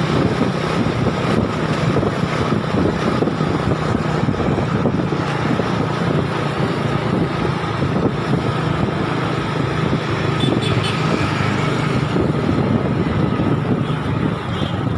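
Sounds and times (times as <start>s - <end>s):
road noise: 0.0s - 14.9s.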